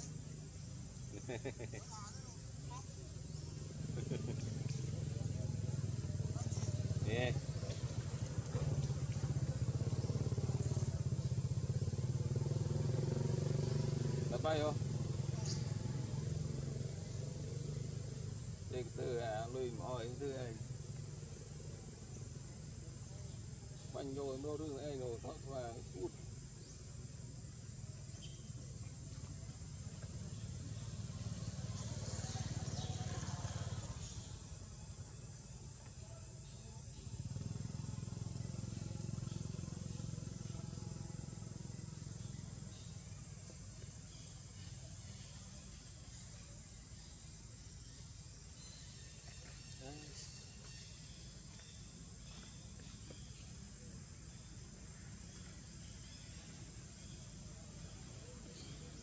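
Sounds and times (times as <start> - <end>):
high insect drone: 0.0 - 59.0
low outdoor rumble: 0.0 - 59.0.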